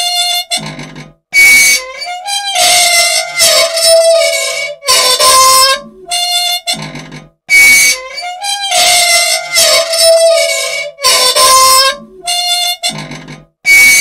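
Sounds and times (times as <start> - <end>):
machine squealing: 0.0 - 14.0.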